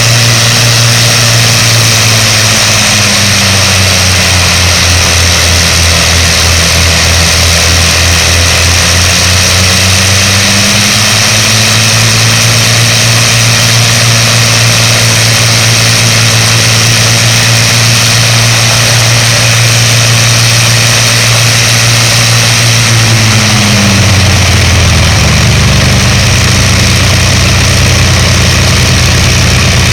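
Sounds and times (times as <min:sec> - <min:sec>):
propeller aircraft engines running: 0:00.0 - 0:29.9.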